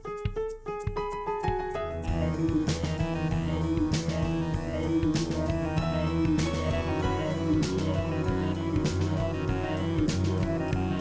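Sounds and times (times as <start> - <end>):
instrumental music with plucked guitar: 0.0 - 11.0.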